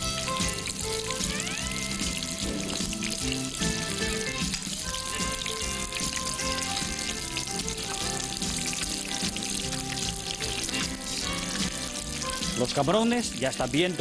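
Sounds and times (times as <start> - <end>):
background music: 0.0 - 14.0
shrimp sizzling in hot oil: 0.0 - 14.0.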